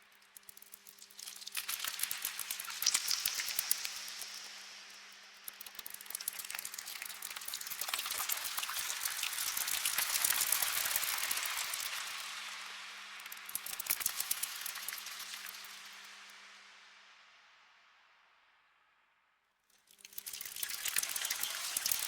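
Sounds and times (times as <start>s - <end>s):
bat wings fluttering and clicks: 0.0s - 16.1s, 19.7s - 22.0s.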